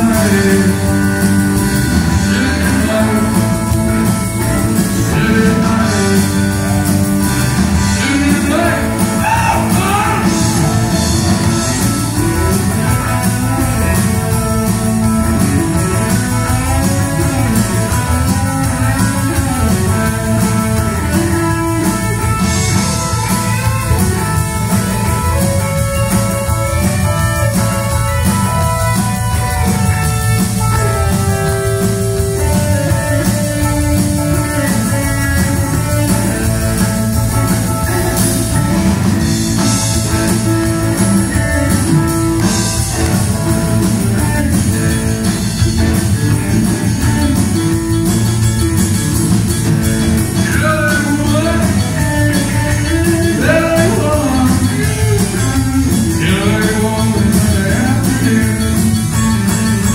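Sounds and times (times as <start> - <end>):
drum kit: 0.0 - 59.9
electric guitar: 0.0 - 59.9
rock band playing: 0.0 - 59.9.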